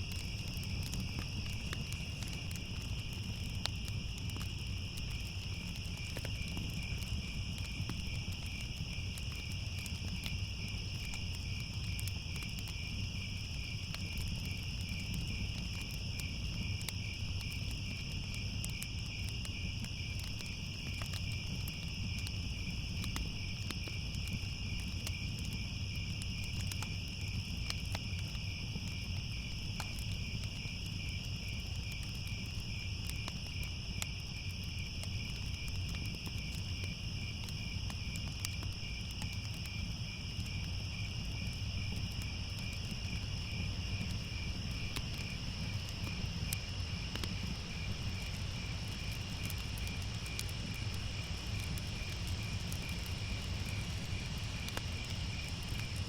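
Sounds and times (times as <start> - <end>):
crickets chirping: 0.0 - 56.0
faint fire crackles: 0.0 - 56.0.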